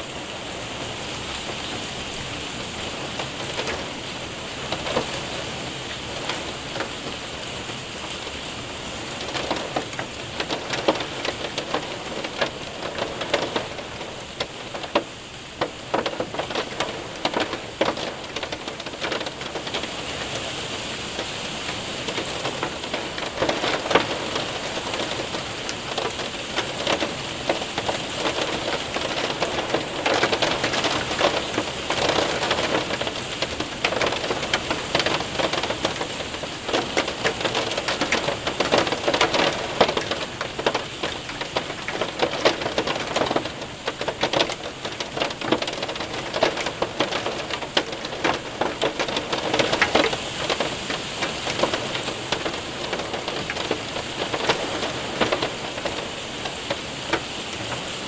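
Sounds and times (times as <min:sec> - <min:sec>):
hailstones ticking: 0:00.0 - 0:58.0
rain hissing: 0:00.0 - 0:58.0.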